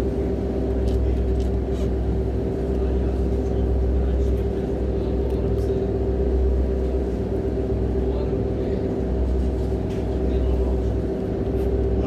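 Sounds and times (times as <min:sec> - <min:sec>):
engine rumbling and humming: 0:00.0 - 0:12.0.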